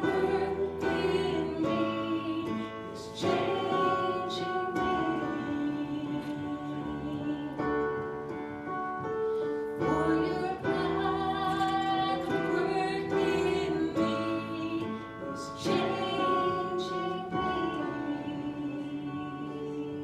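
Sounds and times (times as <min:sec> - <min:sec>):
voices singing worship music: 0:00.0 - 0:20.0.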